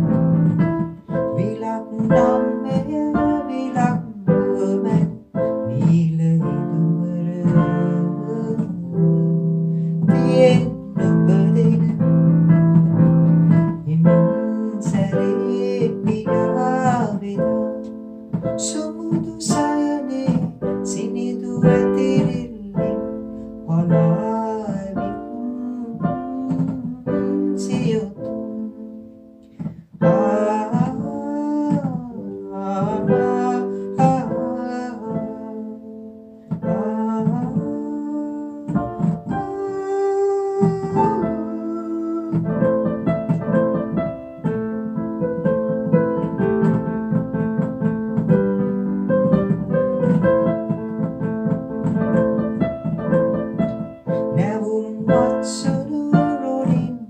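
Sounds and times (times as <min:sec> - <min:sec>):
digital piano playing song: 0:00.0 - 0:57.0
man singing: 0:01.1 - 0:29.0, 0:30.0 - 0:44.0, 0:51.8 - 0:57.0.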